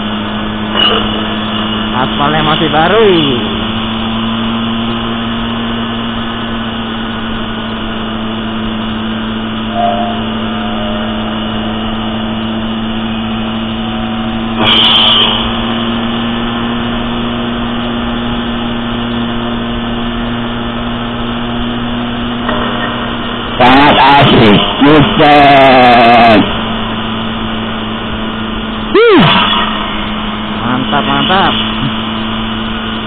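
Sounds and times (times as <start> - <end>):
wind and tyre noise: 0.0 - 33.0.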